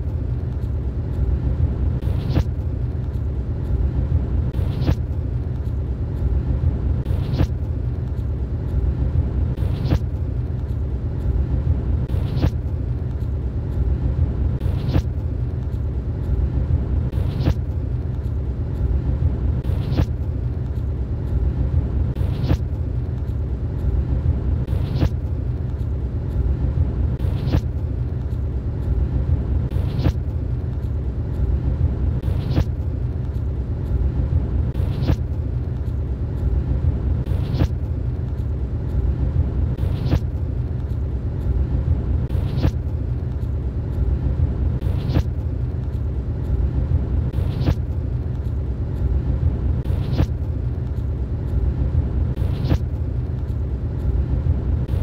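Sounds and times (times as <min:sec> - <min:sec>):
car interior rumble: 0:00.0 - 0:55.0.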